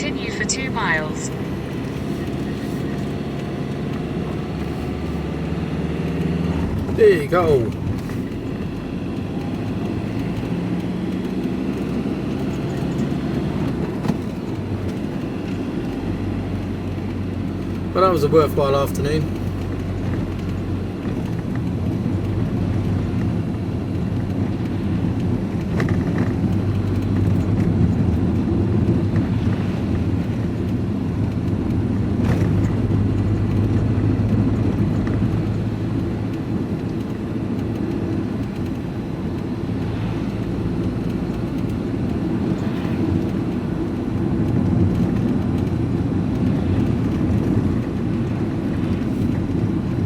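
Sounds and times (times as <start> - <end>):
diesel engine drone: 0.0 - 50.0
road and tyre noise: 0.0 - 50.0.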